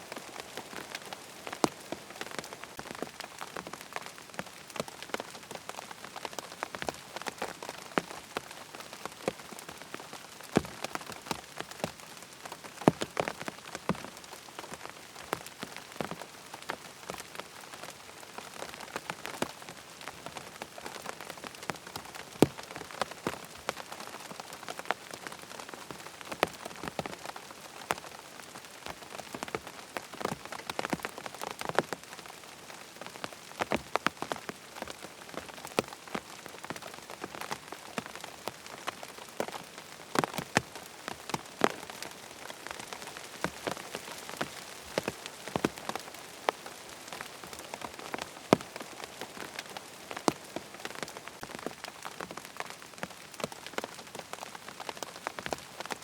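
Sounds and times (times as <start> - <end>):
rain pattering on tent fabric: 0.0 - 56.0.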